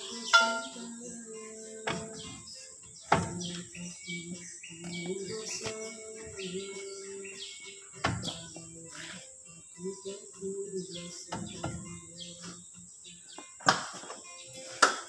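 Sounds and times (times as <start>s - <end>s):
background music: 0.0s - 15.0s
birds chirping: 0.0s - 15.0s.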